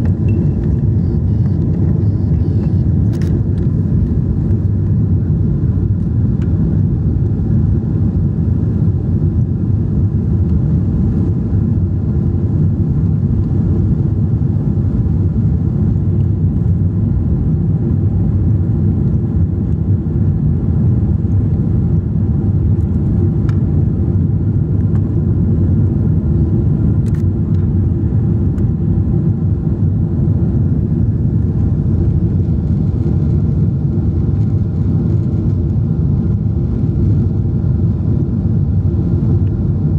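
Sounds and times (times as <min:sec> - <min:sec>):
jet engine cabin roar: 0:00.0 - 0:39.9.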